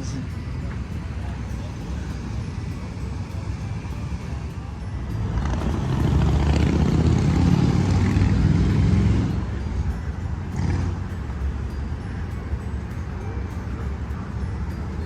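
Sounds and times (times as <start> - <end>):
vehicle engine rumbling past: 0.0 - 15.0.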